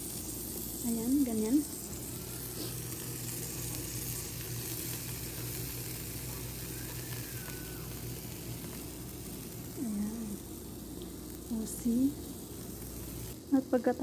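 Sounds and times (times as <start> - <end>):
burgers sizzling on grill: 0.0 - 14.0.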